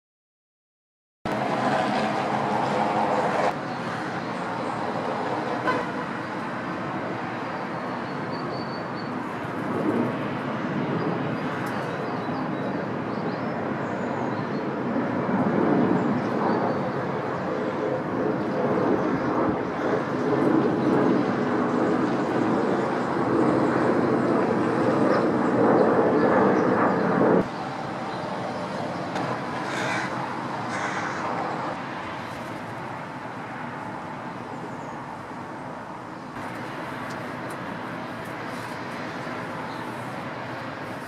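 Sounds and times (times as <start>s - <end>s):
distant vehicles rumbling: 1.3s - 12.9s, 15.0s - 41.0s.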